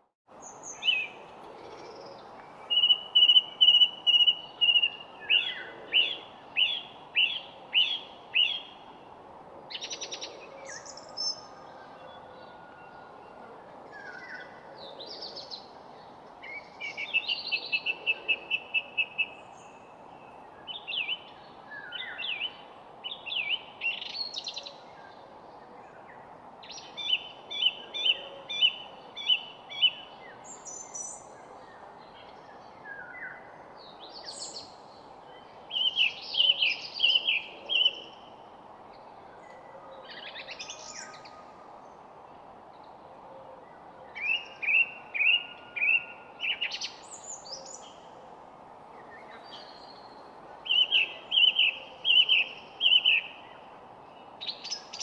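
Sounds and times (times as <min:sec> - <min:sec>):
songbirds chirping: 0:00.0 - 0:55.0
steady background hiss: 0:00.3 - 0:55.0.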